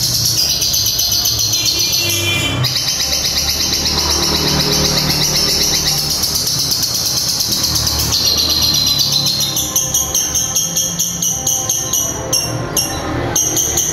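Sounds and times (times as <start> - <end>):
bird singing fast chattering trill: 0.0 - 13.9.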